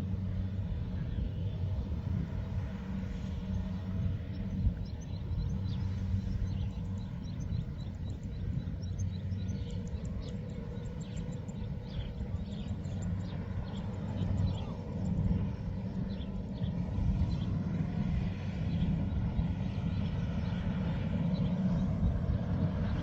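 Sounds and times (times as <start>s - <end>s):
heavy machinery engine humming: 0.0s - 23.0s.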